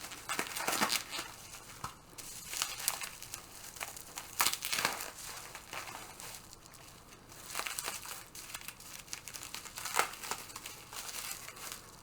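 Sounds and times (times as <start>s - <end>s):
packing material crinkling: 0.0s - 12.0s.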